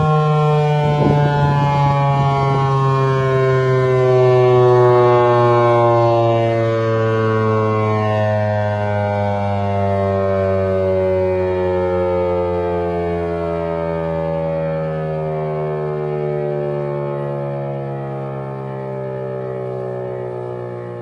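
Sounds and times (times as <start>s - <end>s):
warning siren winding down: 0.0s - 21.0s.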